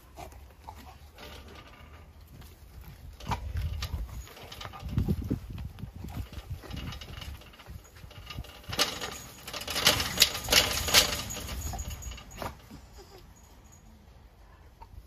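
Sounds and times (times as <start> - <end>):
chain-link fence rattling: 0.6 - 13.9.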